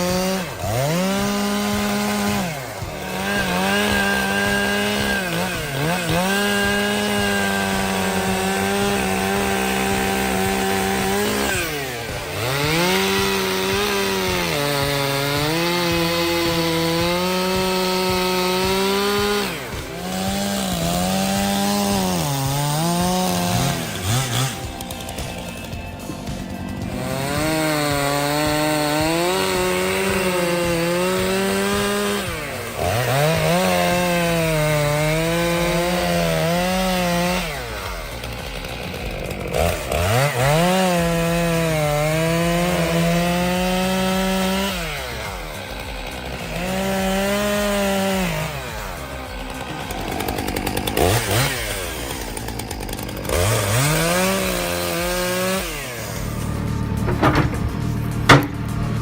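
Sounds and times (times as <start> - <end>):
chainsaw revving through cuts: 0.0 - 59.0.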